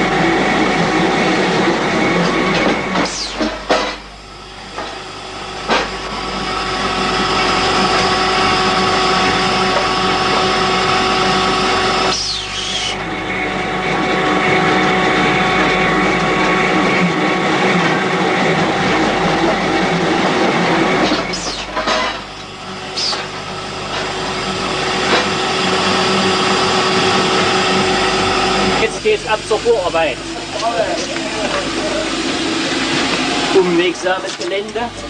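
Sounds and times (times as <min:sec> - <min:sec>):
winch running with high whine: 0:00.0 - 0:35.0.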